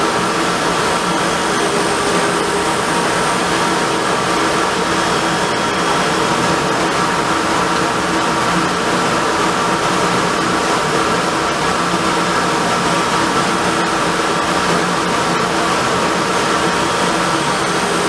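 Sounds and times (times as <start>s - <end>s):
faint machine whine: 0.0s - 18.0s
wood lathe whirring: 0.0s - 18.0s.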